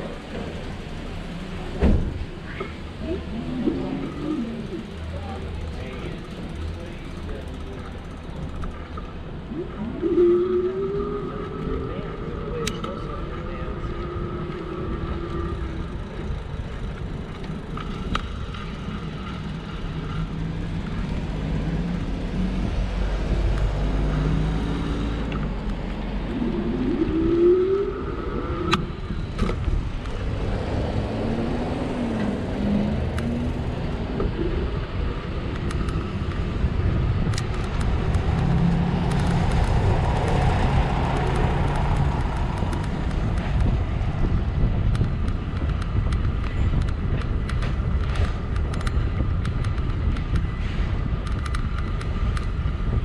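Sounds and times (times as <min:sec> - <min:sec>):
road traffic passing: 0:00.0 - 0:53.0
wind on microphone: 0:09.2 - 0:53.0.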